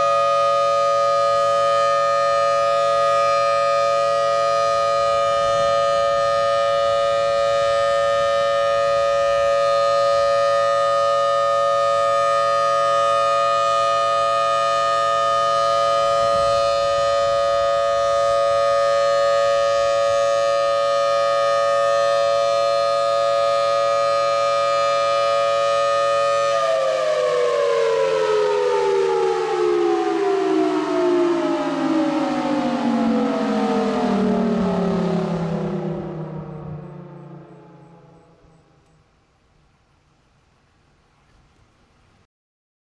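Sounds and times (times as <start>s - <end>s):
warning siren steady tone: 0.0s - 39.7s.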